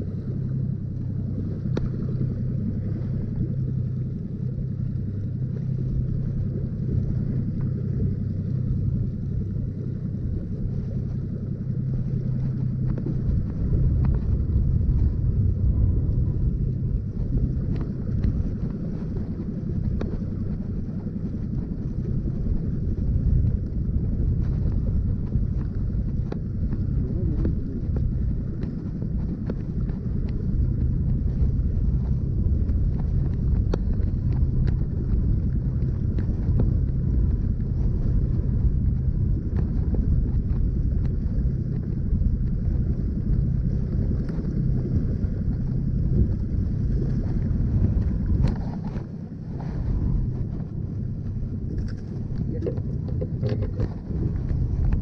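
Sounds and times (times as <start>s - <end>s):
boat motor running: 0.0s - 55.0s
wind buffeting microphone: 0.0s - 55.0s.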